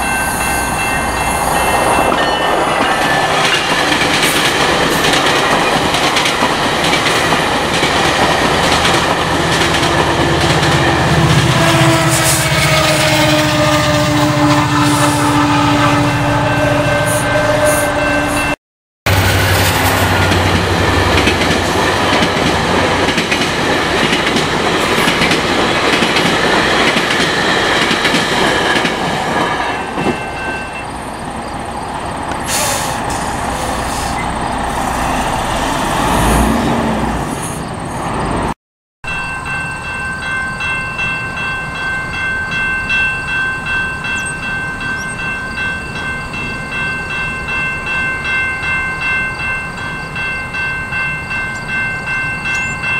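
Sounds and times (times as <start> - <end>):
crossing bell ringing: 0.0 - 35.5, 39.0 - 52.9
train rumbling on rails: 0.0 - 52.9.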